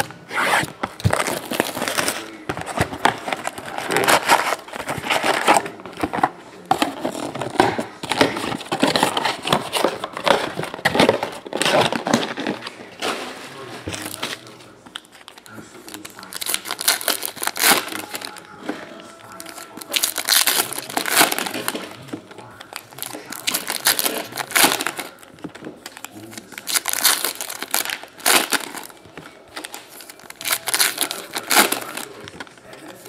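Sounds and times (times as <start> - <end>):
card wrappers tearing and crinkling: 0.0 - 33.0.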